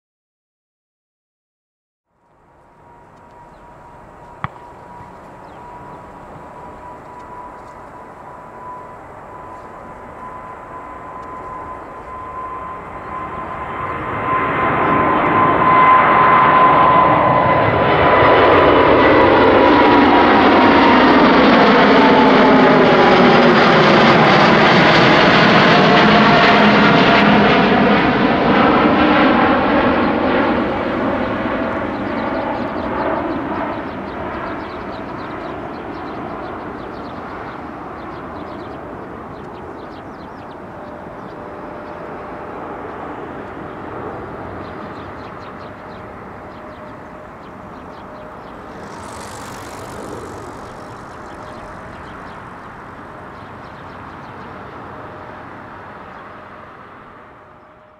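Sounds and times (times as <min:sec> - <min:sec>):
jet engine roar: 0:02.4 - 0:57.2.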